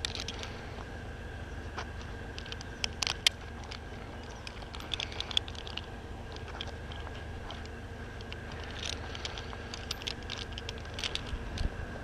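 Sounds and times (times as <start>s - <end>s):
climbing spurs biting into wood: 1.8s - 11.7s.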